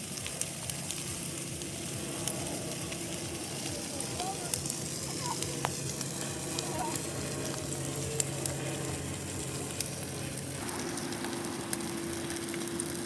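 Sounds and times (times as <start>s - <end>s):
bonfire crackling and popping: 0.0s - 13.0s
low steady hum: 0.0s - 13.0s.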